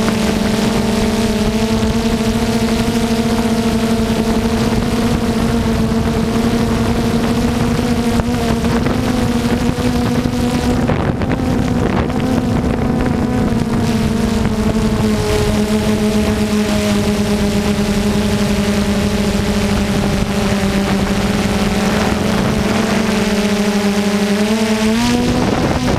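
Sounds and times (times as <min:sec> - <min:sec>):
drone propellers humming: 0:00.0 - 0:25.9
wind on microphone: 0:00.0 - 0:25.9.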